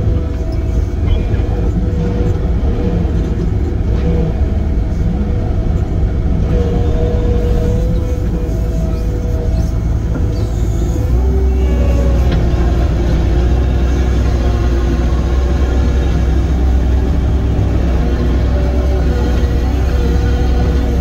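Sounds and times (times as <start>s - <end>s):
heavy equipment engine rumbling: 0.0s - 21.0s.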